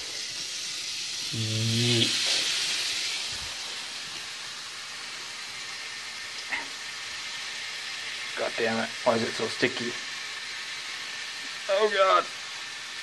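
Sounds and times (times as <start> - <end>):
bacon sizzling in a frying pan: 0.0 - 13.0.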